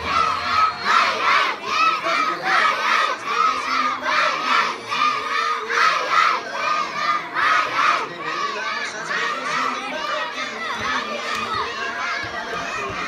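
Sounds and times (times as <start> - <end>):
crowd shouting and cheering rhythmically: 0.0 - 13.0.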